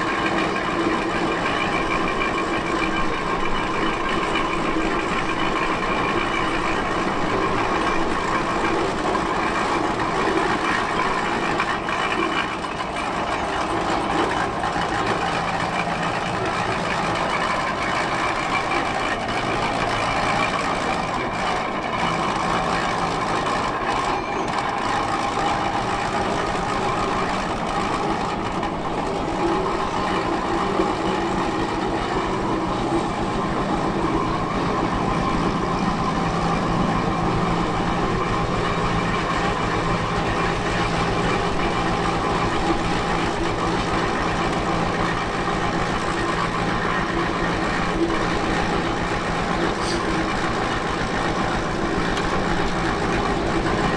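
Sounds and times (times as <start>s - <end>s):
large vehicle engine drone: 0.0s - 53.9s.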